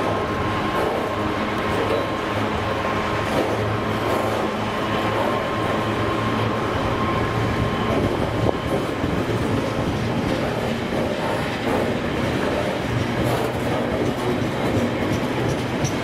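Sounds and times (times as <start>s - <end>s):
thin steady whine: 0.0s - 16.0s
train wheels clattering on rail: 0.0s - 16.0s.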